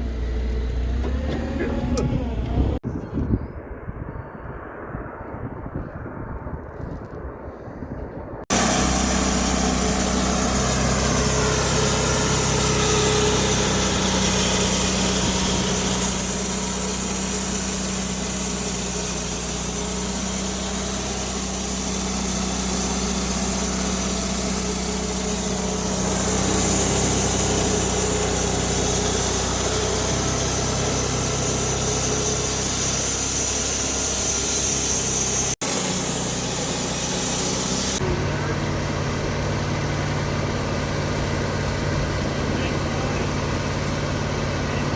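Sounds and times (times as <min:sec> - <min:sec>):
heavy machinery engine running: 0:00.0 - 0:02.8, 0:08.5 - 0:44.9.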